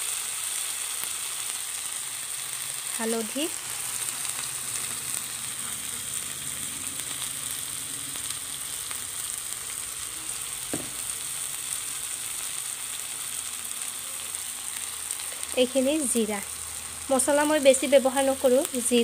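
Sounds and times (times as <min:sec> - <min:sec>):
onions frying in hot oil: 0:00.0 - 0:19.0.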